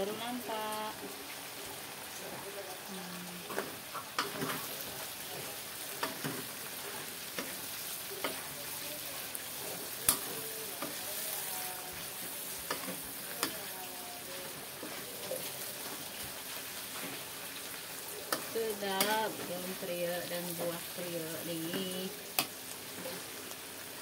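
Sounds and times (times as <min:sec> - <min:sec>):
vegetables sizzling in a wok: 0:00.0 - 0:24.0.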